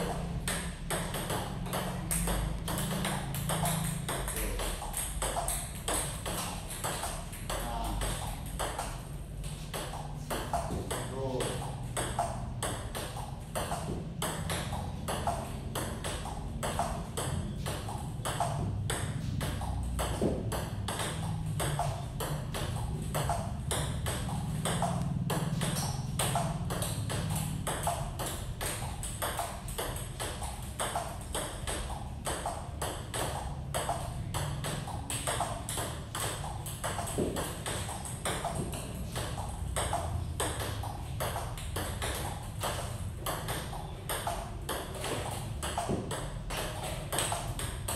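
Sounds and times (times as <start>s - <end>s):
table tennis ball clicking: 0.0s - 47.9s.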